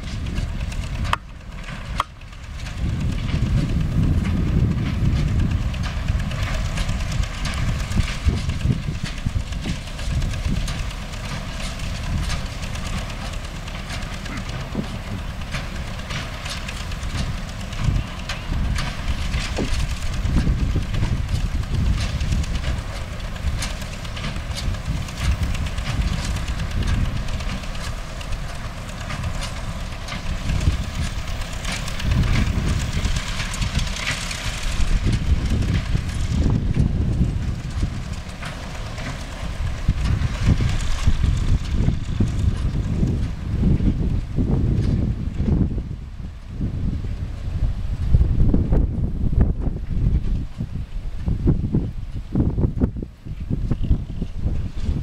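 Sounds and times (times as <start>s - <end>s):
hay baler mechanical clatter: 0.0s - 55.0s
tractor diesel engine rumble: 0.0s - 55.0s.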